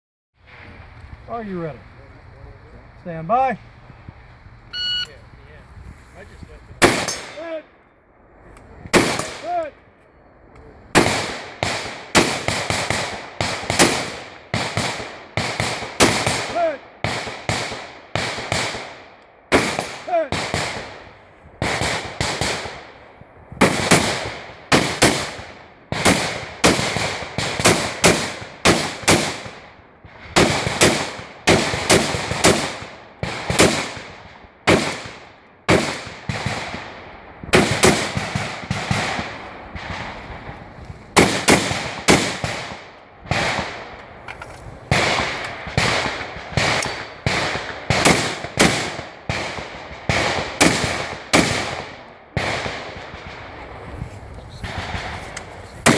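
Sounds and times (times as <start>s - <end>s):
rifle shots with echo: 6.8s - 7.8s, 8.9s - 9.7s, 10.9s - 44.2s, 44.8s - 53.9s, 54.6s - 55.9s.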